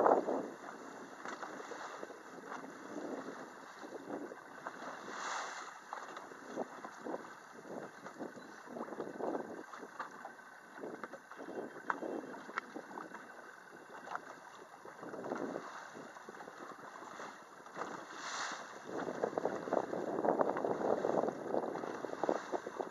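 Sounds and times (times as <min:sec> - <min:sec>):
water splashing against boat hull: 0:00.0 - 0:22.9
wind buffeting microphone: 0:00.0 - 0:22.9.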